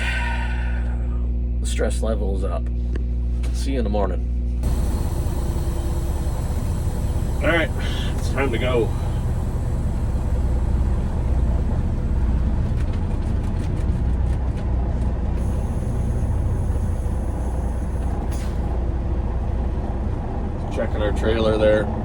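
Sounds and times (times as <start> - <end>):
diesel truck engine rumbling: 4.3 - 22.0.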